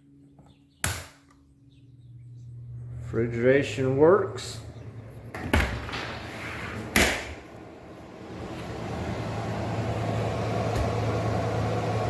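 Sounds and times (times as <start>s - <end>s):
refrigeration unit humming: 0.0s - 12.0s.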